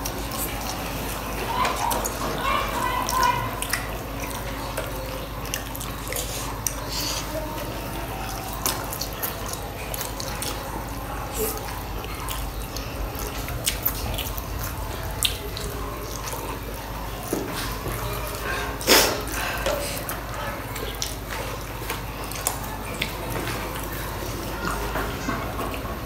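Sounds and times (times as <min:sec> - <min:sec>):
steady low hum: 0:00.0 - 0:26.0
wet chewing mouth smacks: 0:03.1 - 0:07.4, 0:08.1 - 0:25.0.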